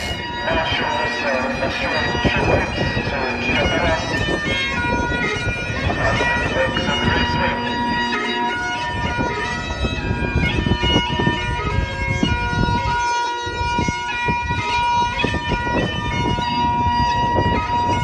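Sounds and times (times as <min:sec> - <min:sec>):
bagpipes playing: 0:00.0 - 0:18.0.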